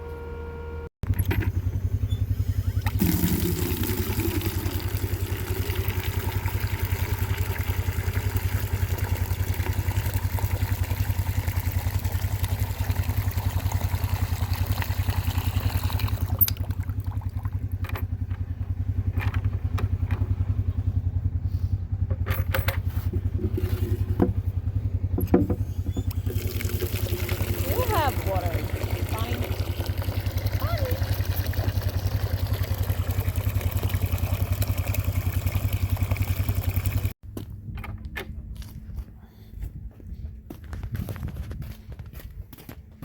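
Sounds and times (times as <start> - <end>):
skid loader engine humming: 0.0 - 37.2.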